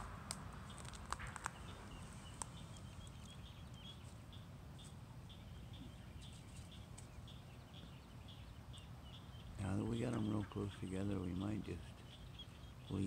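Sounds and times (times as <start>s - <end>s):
low steady rumble: 0.0s - 13.0s
ducklings peeping: 0.6s - 13.0s.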